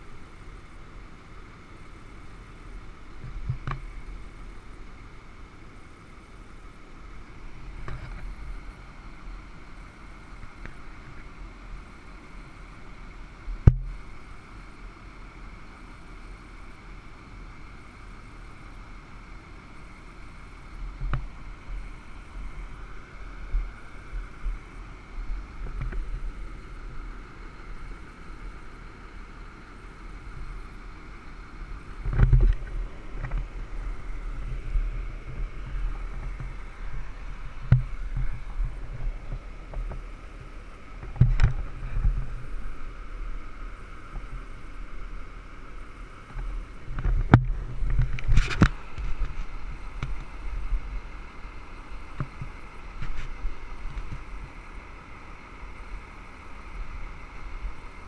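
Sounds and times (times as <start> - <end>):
low steady rumble: 0.0 - 58.0.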